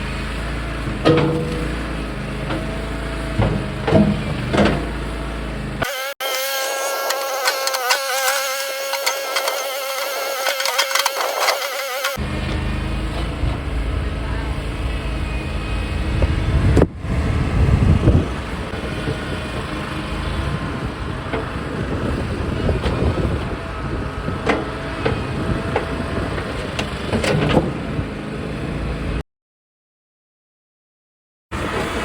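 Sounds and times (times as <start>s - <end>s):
loader engine running: 0.0s - 29.2s, 31.6s - 32.0s.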